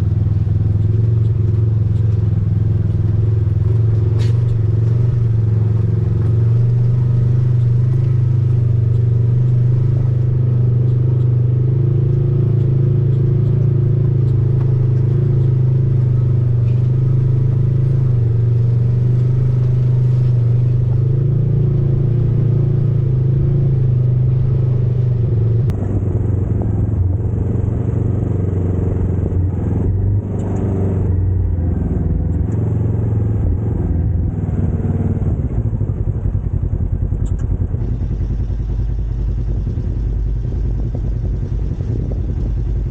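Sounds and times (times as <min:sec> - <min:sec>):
utility vehicle engine running: 0:00.0 - 0:42.9.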